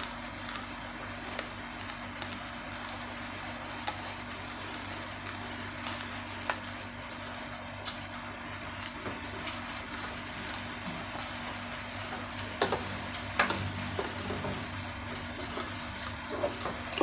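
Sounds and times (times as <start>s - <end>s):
background hiss and hum: 0.0s - 17.0s
rice grains crunching in teeth: 0.0s - 17.0s.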